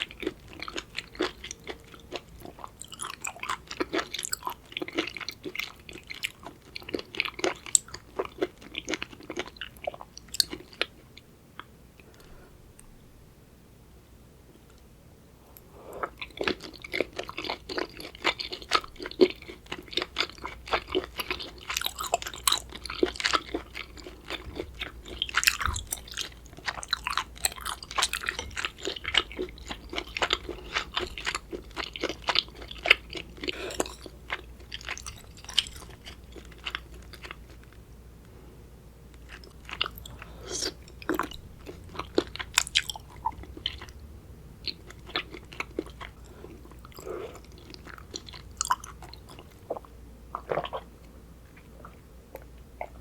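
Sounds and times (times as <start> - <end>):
wet chewing crunches: 0.0 - 10.9, 16.0 - 37.8, 39.2 - 44.0, 44.6 - 50.9.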